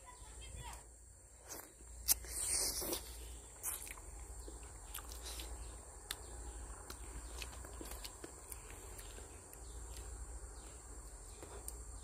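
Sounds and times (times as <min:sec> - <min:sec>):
crunching and rustling: 0:01.4 - 0:11.9
person biting and chewing fruit: 0:01.4 - 0:12.0.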